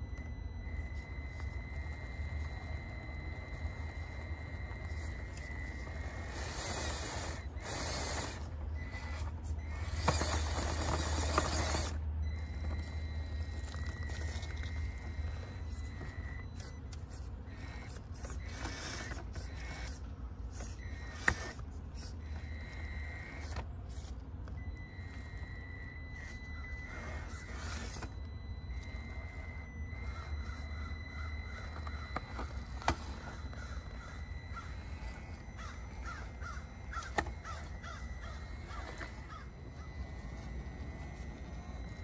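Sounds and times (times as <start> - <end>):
electric motor and gear whine: 0.0 - 42.0.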